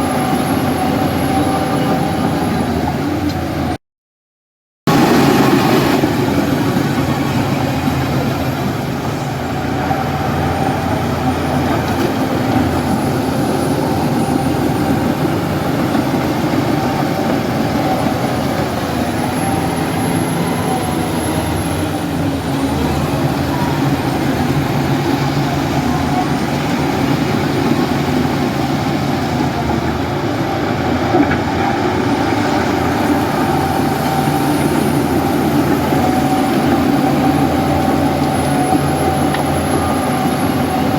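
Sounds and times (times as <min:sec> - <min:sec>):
bulldozer diesel engine drone: 0:00.0 - 0:03.8, 0:04.9 - 0:40.9.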